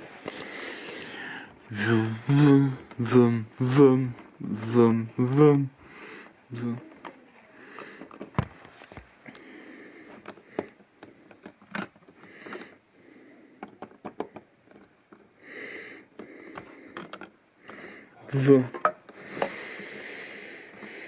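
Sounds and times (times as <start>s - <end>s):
soft breaths: 0.0s - 21.0s.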